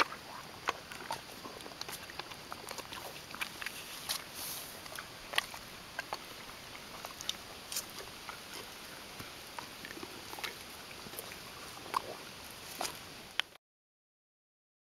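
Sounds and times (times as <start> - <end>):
donkeys chewing apple: 0.0 - 13.5.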